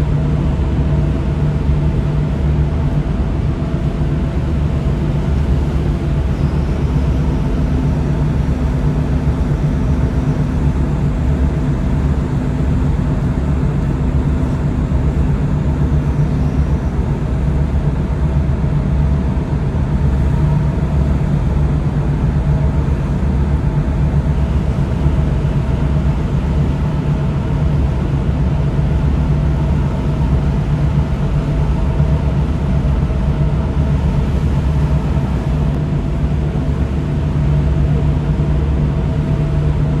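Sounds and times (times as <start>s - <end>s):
tugboat engine humming: 0.0s - 40.0s.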